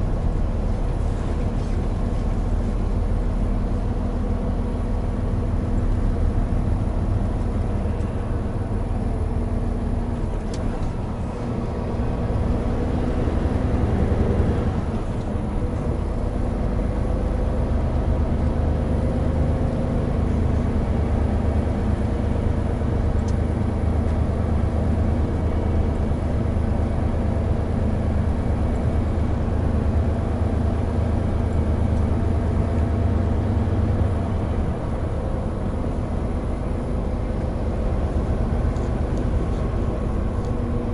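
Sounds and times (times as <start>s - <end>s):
truck diesel engine running: 0.0s - 40.9s
tyre and road noise: 0.0s - 40.9s.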